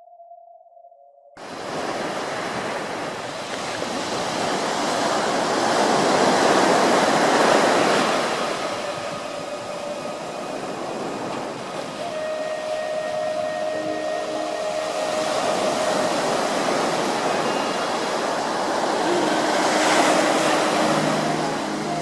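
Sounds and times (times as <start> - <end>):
faint steady tone: 2.6 - 22.0.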